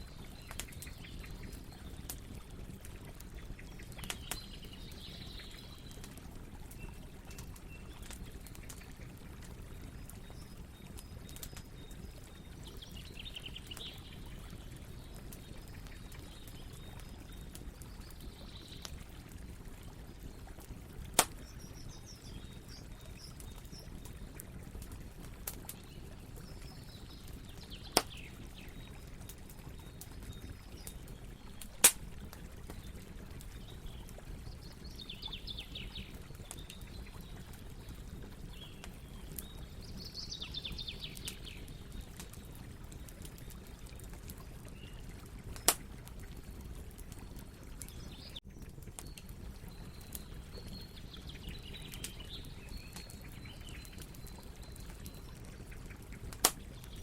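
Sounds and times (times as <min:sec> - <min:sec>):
campfire rustling: 0:00.0 - 0:57.0
faint birdsong: 0:00.0 - 0:57.0
campfire pops: 0:00.1 - 0:35.0, 0:35.8 - 0:39.7, 0:40.8 - 0:50.8, 0:51.4 - 0:57.0.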